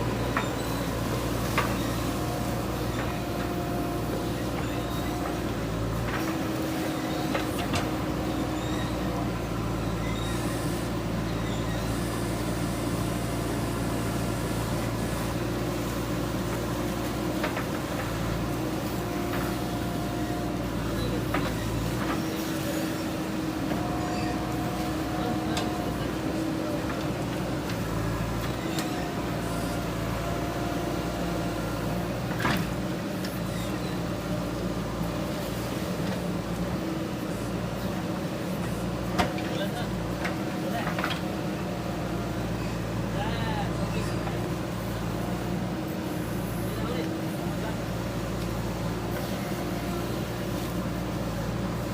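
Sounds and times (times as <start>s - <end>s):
diesel engine running steadily: 0.0s - 51.9s.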